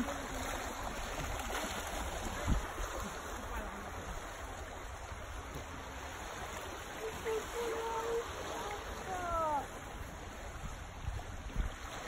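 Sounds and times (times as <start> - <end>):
waves washing onto stony beach: 0.0 - 12.0
wind rumbling on microphone: 0.0 - 12.0.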